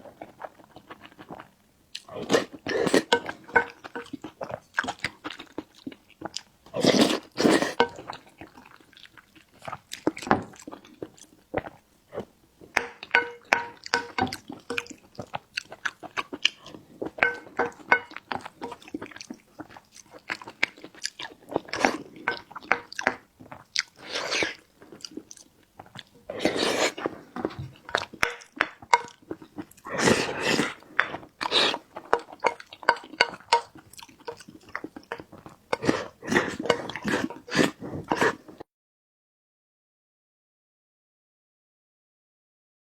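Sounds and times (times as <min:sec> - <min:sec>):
chewing and biting: 0:00.0 - 0:38.6.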